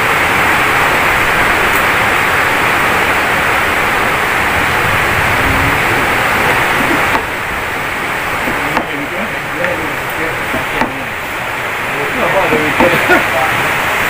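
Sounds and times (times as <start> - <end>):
loud static hiss: 0.0 - 14.0.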